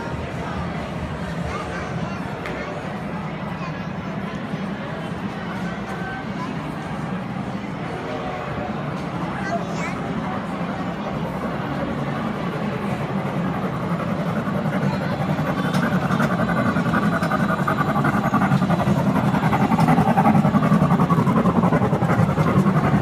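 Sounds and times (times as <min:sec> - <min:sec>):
miniature train running on track: 0:00.0 - 0:23.0.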